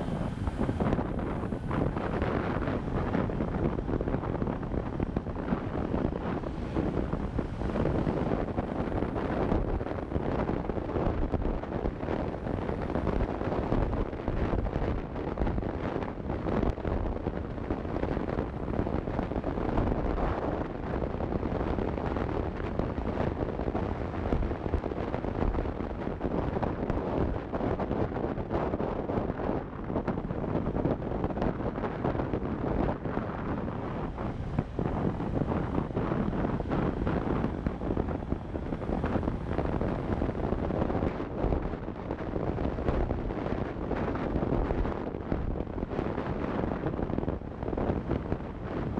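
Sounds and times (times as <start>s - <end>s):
motorcycle road and engine noise: 0.0s - 48.9s
wind buffeting microphone: 0.0s - 48.9s.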